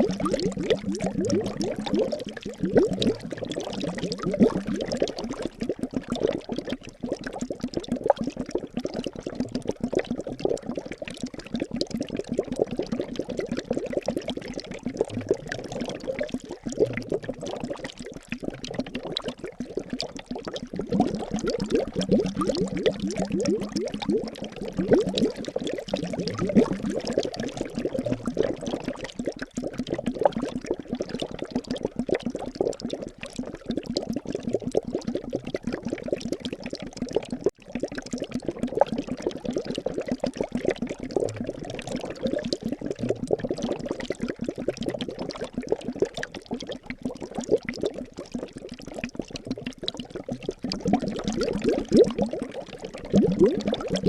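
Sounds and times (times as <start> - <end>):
liquid bubbling: 0.0 - 54.0.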